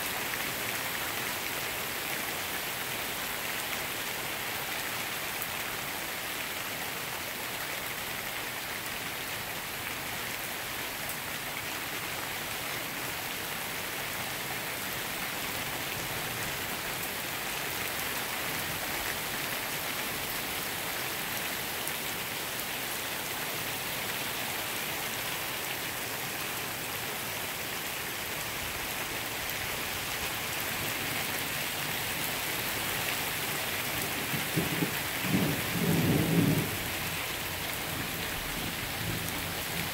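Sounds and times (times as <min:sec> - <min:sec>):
heavy rain on pavement: 0:00.0 - 0:39.9.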